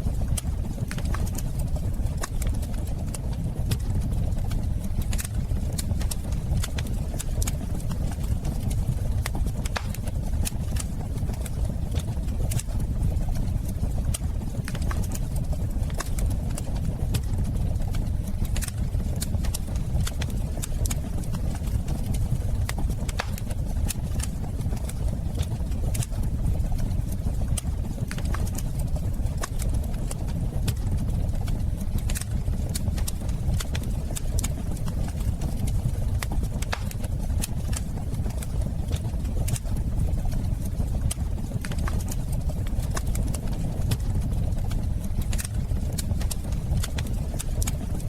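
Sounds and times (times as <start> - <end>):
fire crackling and popping: 0.0 - 48.0
fire roaring: 0.0 - 48.0
low rumble of flame: 0.0 - 48.0.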